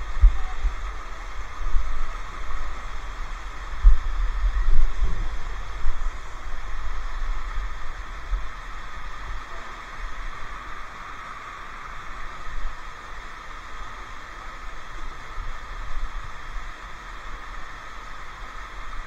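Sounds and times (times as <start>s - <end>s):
waterfall rushing: 0.0s - 19.0s
wind and handling on microphone: 0.0s - 19.0s.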